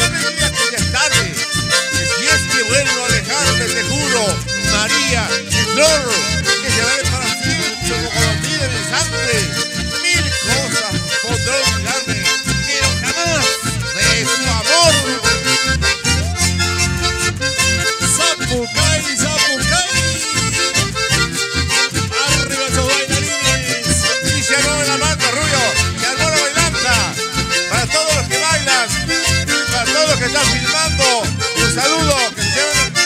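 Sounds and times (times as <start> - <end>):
acoustic guitar: 0.0 - 33.0
button accordion: 0.0 - 33.0
pulsing bass beat: 0.0 - 33.0.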